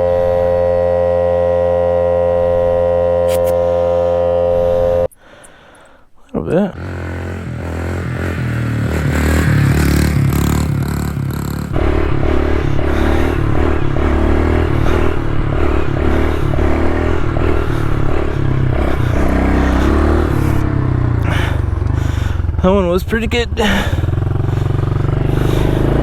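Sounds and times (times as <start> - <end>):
pit bike engine revving: 0.0 - 5.2, 6.7 - 26.0.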